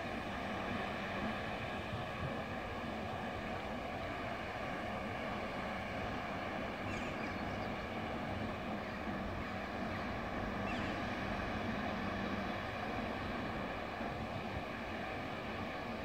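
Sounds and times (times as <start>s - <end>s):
distant electric train humming: 0.0s - 16.0s.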